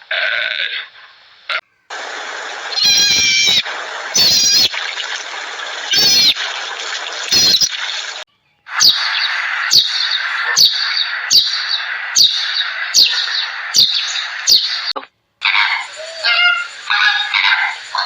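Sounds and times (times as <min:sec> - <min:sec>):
steady hiss: 0:00.0 - 0:18.0
animal calls: 0:02.7 - 0:18.0.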